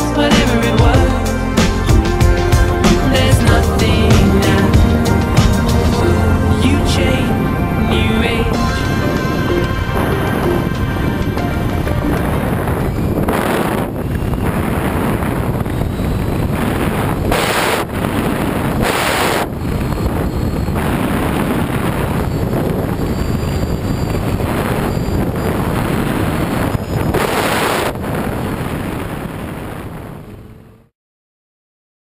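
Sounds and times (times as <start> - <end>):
wind rushing over microphone: 0.8 - 30.9.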